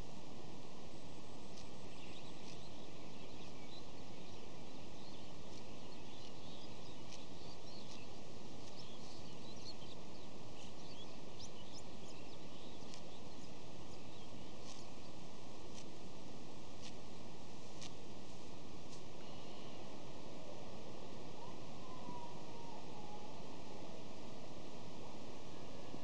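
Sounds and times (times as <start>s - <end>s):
steady hiss: 0.0s - 26.0s
flock of birds chirping: 1.0s - 26.0s.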